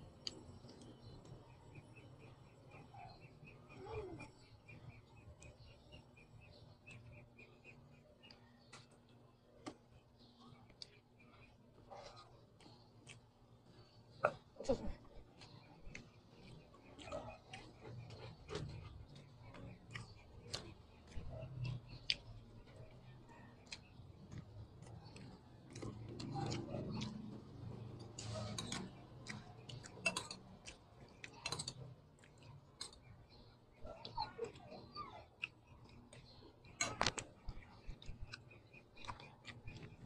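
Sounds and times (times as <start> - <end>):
chewing clicks and smacks: 0.0 - 40.0
faint low hum: 0.0 - 40.0.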